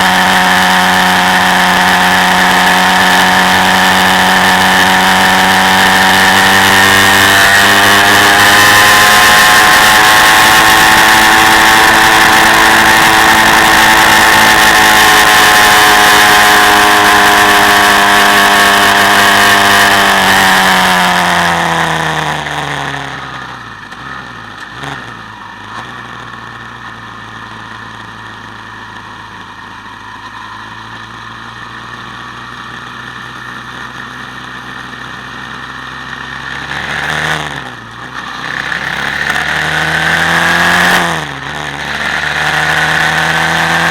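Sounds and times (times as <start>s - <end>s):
quad bike engine revving: 0.0s - 43.9s.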